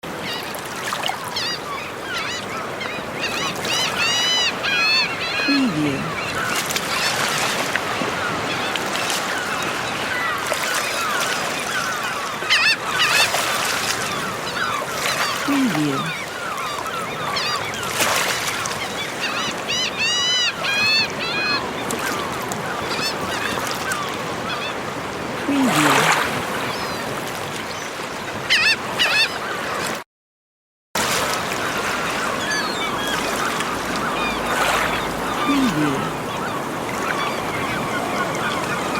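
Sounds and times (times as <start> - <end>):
small waves breaking: 0.0 - 30.0, 31.0 - 38.9
seagulls calling: 0.1 - 30.0, 31.3 - 38.9.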